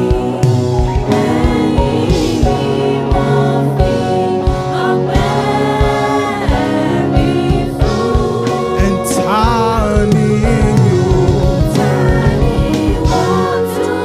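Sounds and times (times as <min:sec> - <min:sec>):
band with steady drum beat: 0:00.0 - 0:14.0
choir singing held notes: 0:00.0 - 0:14.0.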